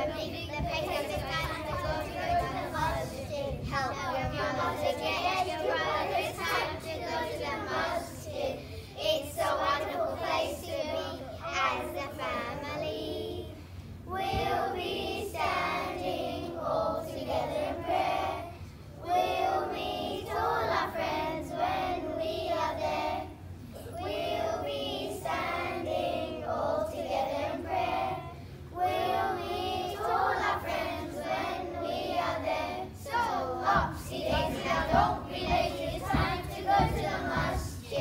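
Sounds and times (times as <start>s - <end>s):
children singing together: 0.0s - 38.0s.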